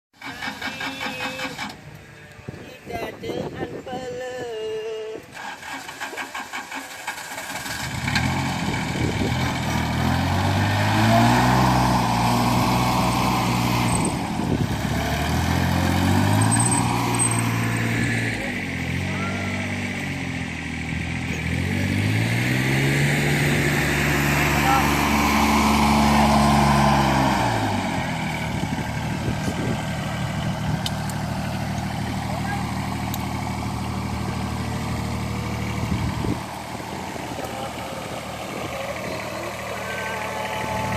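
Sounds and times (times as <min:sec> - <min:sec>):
engine revving: 0:05.4 - 0:40.9.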